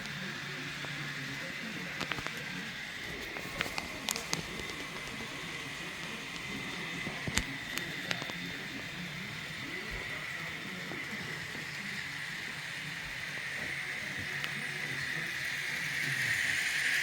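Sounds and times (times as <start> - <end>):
model train whine: 0.0 - 17.0.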